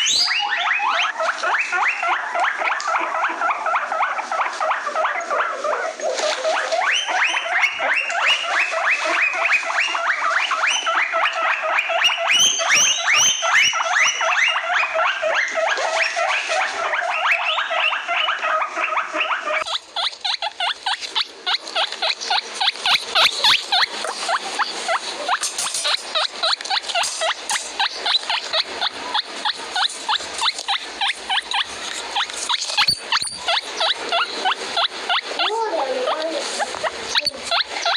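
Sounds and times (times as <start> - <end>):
guinea pig squealing: 0.0 - 37.9.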